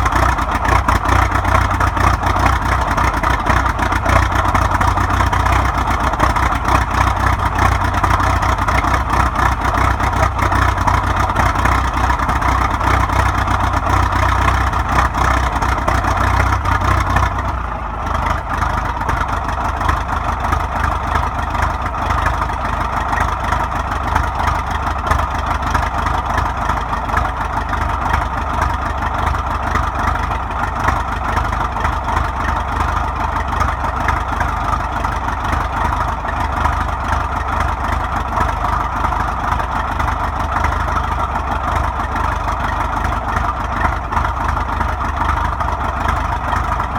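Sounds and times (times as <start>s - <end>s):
crawler diesel engine running: 0.0s - 46.9s.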